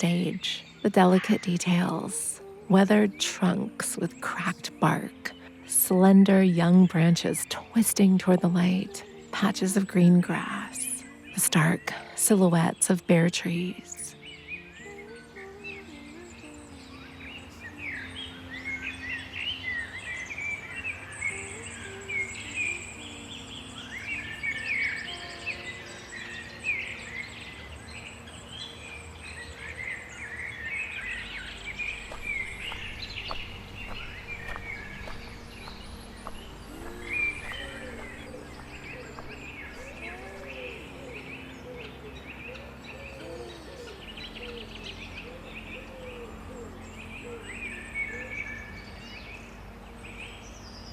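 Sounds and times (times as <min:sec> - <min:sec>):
soft ambient music: 0:00.0 - 0:50.9
songbirds chirping and trilling: 0:00.0 - 0:50.9.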